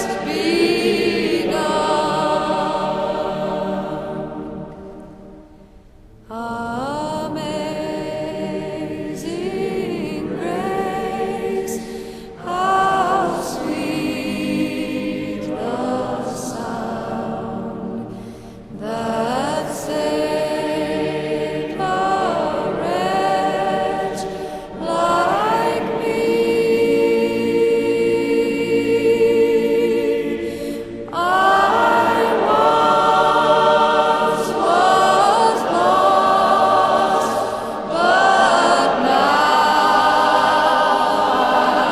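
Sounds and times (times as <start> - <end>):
choir singing slowly: 0.0 - 41.9.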